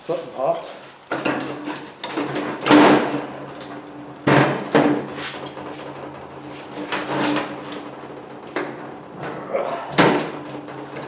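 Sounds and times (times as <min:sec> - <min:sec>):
metal knocks and clanks: 0:01.1 - 0:11.0.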